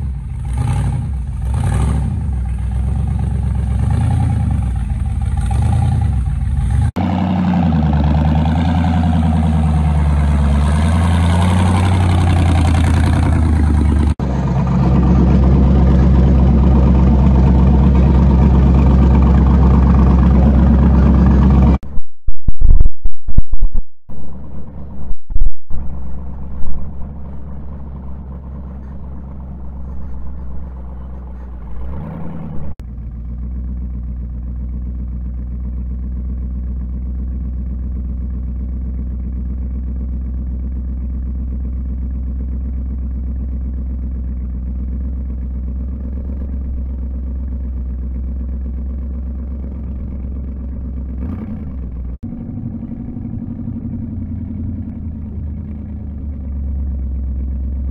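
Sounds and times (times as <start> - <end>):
off-road engines running low revs: 0.0 - 21.8, 24.1 - 25.1, 25.7 - 57.9.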